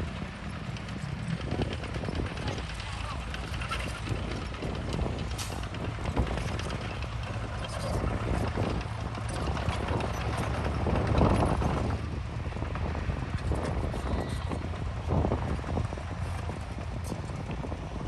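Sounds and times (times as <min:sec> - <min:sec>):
bulldozer diesel engine running: 0:00.0 - 0:18.0
steel crawler tracks clanking: 0:00.0 - 0:18.0.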